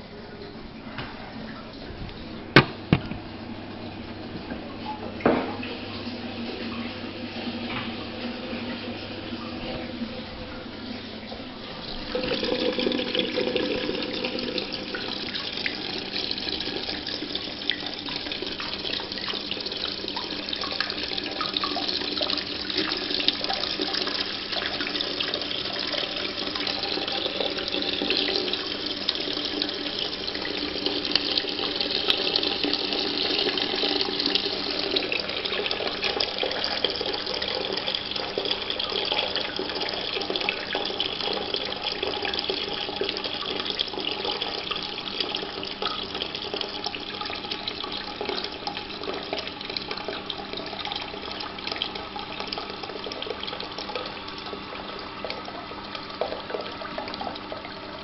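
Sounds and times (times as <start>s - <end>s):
toilet cistern filling with water: 0.0s - 58.0s.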